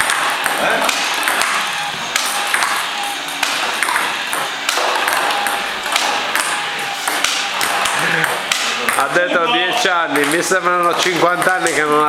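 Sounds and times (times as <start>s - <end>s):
table tennis ball clicking: 0.0s - 9.2s, 10.0s - 12.0s.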